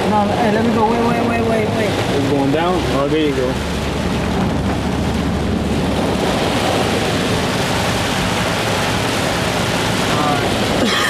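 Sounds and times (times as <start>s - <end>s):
car engine running: 0.0s - 11.0s
water rushing around a car: 0.0s - 11.0s.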